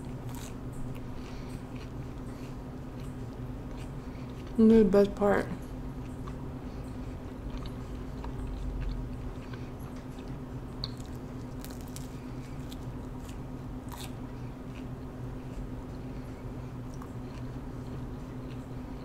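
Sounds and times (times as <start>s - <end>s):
person chewing: 0.0s - 4.6s, 5.9s - 19.0s
faint steady hum: 0.0s - 19.0s.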